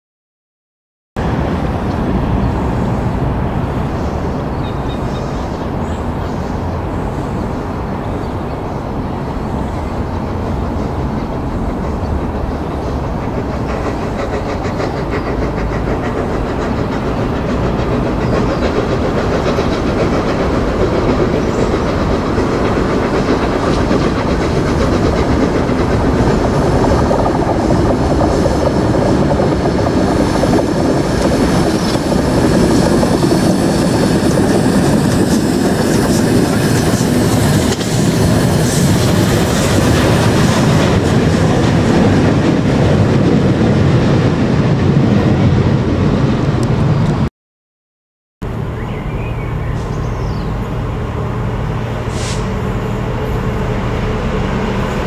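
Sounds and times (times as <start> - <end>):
train wheels rumbling on rails: 1.2 - 47.3, 48.4 - 55.0.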